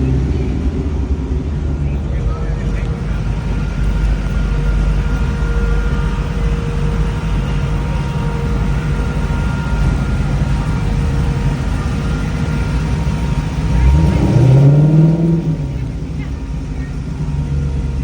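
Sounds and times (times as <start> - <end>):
car engine and road rumble: 0.0 - 18.0
faint steady whine: 0.0 - 18.0.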